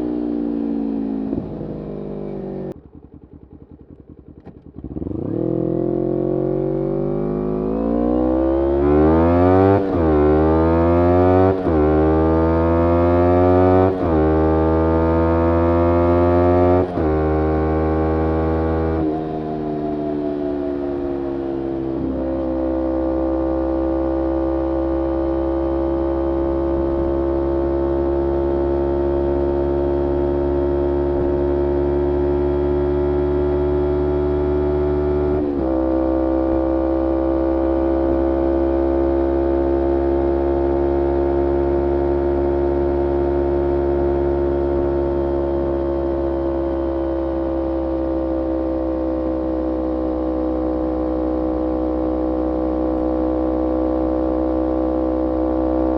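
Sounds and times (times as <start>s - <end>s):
motorcycle engine steady revs: 0.0s - 55.9s.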